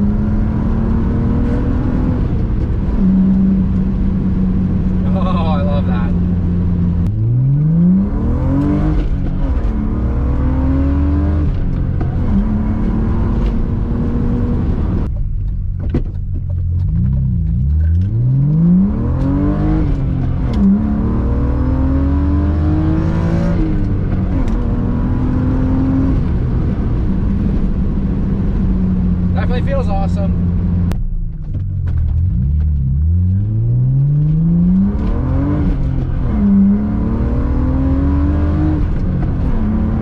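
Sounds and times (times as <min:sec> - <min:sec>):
car engine accelerating through gears: 0:00.0 - 0:15.1, 0:16.6 - 0:40.0.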